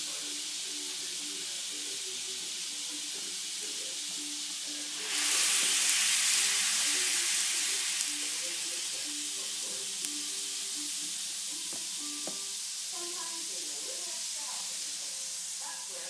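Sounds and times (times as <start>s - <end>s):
ice sizzling on hot pan: 0.0s - 16.0s.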